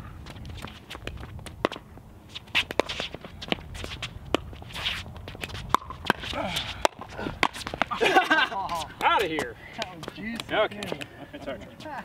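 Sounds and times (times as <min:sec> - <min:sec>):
shoes scuffing on hard court: 0:00.2 - 0:11.0.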